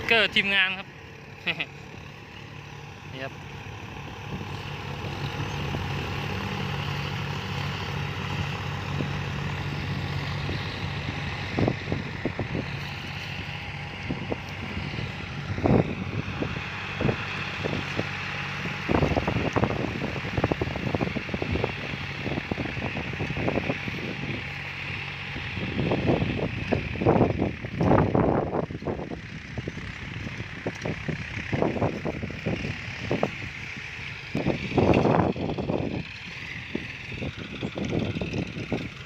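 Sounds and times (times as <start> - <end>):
tractor diesel engine running: 0.0 - 39.0
wind buffeting microphone: 4.1 - 39.0.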